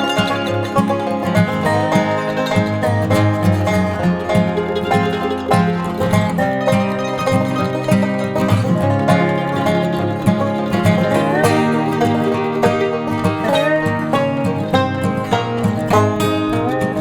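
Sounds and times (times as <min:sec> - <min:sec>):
bluegrass banjo and guitar music: 0:00.0 - 0:17.0.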